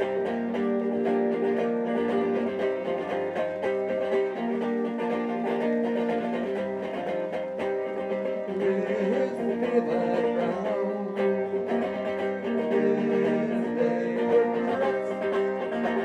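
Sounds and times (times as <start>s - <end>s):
acoustic guitar picking: 0.0s - 16.0s
person singing folk song: 0.0s - 16.0s.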